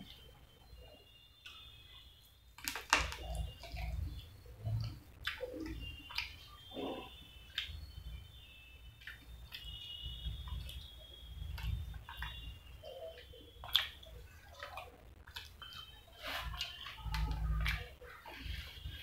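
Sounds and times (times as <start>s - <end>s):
wet chewing and lip-smacking: 2.6s - 19.0s.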